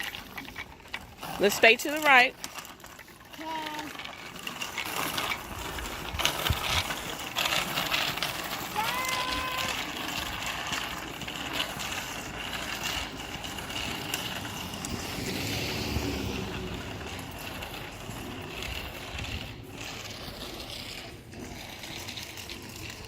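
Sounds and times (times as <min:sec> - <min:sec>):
bicycle tyres rolling: 0:00.0 - 0:23.0.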